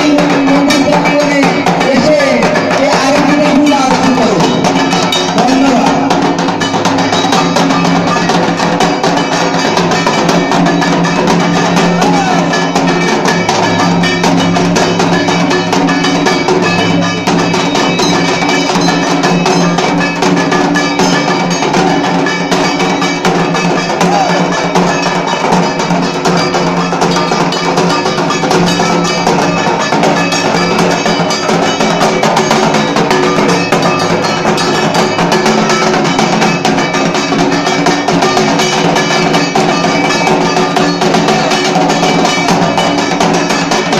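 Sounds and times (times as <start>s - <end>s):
barrel drum beaten with sticks: 0.0s - 43.9s
metallic clanging beat: 0.0s - 43.9s.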